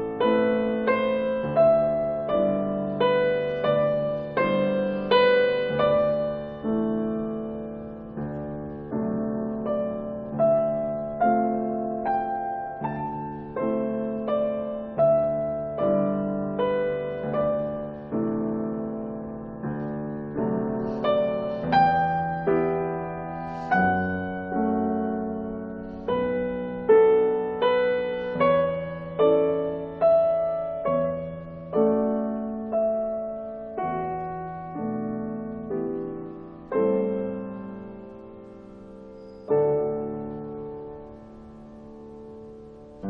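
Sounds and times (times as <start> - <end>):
slow solo piano music: 0.0 - 43.0.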